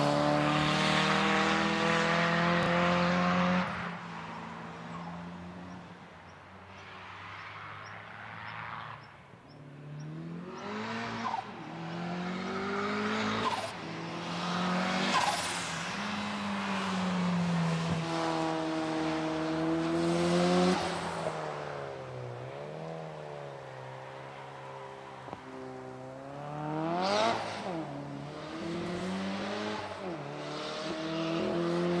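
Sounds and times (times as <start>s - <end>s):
car engine accelerating: 0.0s - 5.8s, 9.7s - 32.0s.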